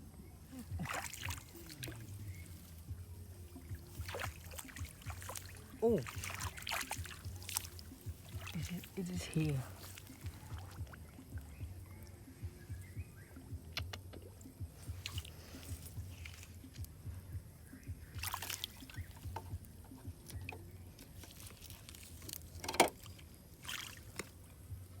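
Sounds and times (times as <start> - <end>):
shallow water sloshing and splashing: 0.5 - 11.8, 14.3 - 25.0.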